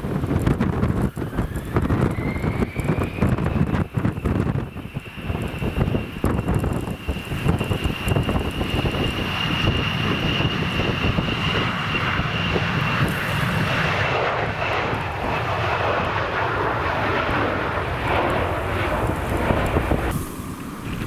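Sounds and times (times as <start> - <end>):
jet engines roaring: 0.0 - 21.0
wind buffeting microphone: 0.0 - 21.0
high engine whine: 0.1 - 21.0.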